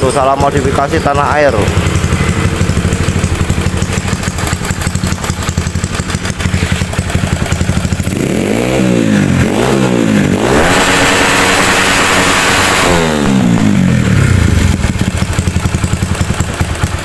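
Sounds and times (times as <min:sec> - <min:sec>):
dirt bike engine idling and revving: 0:00.0 - 0:17.0.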